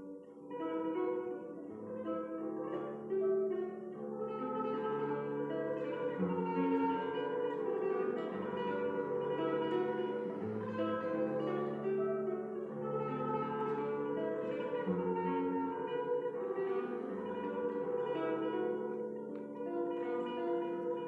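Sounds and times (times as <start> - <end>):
classical guitar playing: 0.0 - 21.0.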